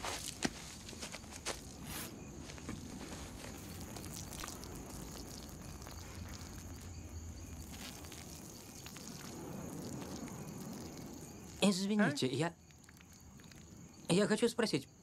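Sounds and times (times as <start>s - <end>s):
urine trickling on leaves: 0.0s - 14.5s.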